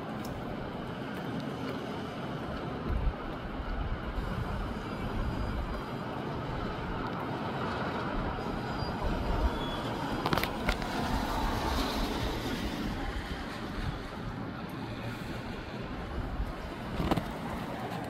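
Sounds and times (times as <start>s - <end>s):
wind rushing through palm trees: 0.0s - 18.0s
wind buffeting microphone: 0.3s - 18.0s.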